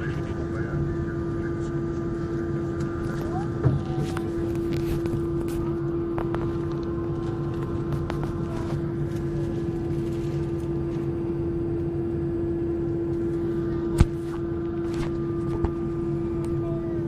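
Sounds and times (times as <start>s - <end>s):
airliner cabin engine roar: 0.0s - 17.0s
steady hum: 0.0s - 17.0s.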